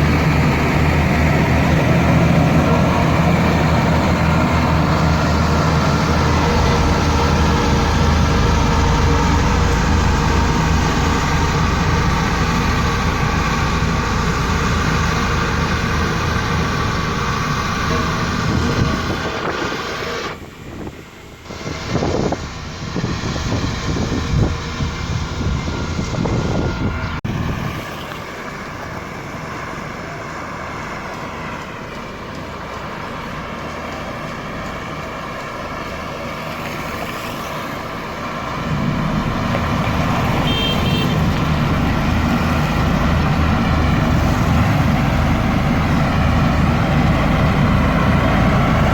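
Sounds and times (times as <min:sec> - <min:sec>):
heavy construction machine engines: 0:00.0 - 0:48.9.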